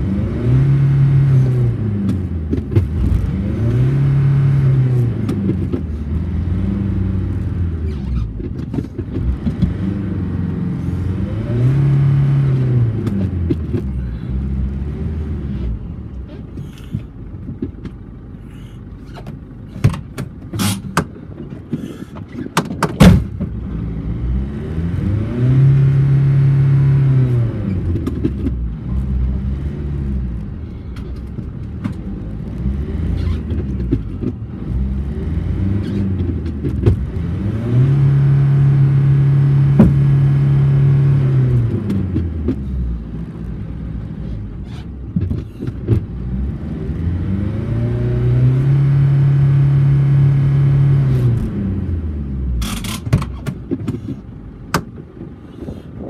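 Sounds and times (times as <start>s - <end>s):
vehicle engine revving: 0.0s - 8.4s, 9.0s - 16.2s, 23.5s - 53.0s.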